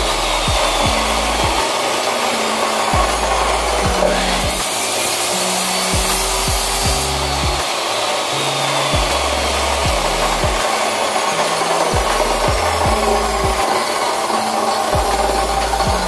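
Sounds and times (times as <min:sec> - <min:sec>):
chop saw cutting steel: 0:00.0 - 0:16.0
high whine falling in pitch: 0:00.0 - 0:16.0.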